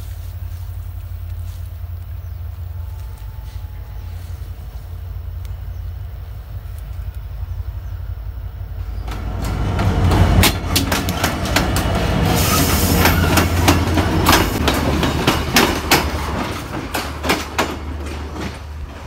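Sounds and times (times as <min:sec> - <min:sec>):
train passing with heavy rumble: 0:00.0 - 0:19.0
wheels clacking on rails: 0:00.0 - 0:19.0.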